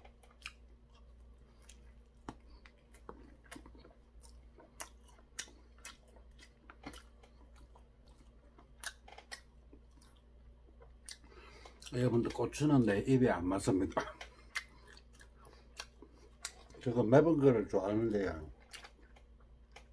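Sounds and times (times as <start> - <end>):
person chewing crunchy food: 0.0 - 12.4, 13.7 - 17.0, 18.1 - 19.9.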